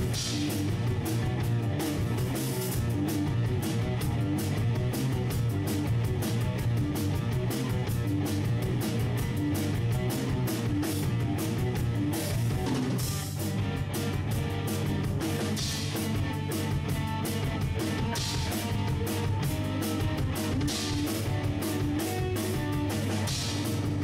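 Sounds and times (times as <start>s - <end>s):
drum kit fast beat: 0.0s - 24.0s
rock guitar: 0.0s - 24.0s.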